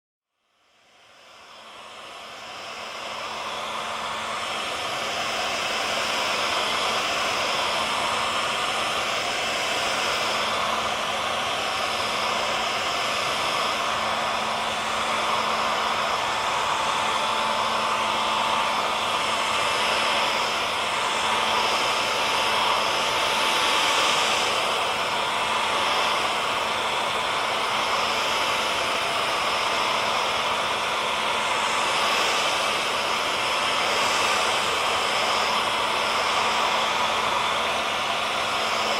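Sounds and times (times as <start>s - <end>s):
hair dryer running: 0.3s - 38.9s.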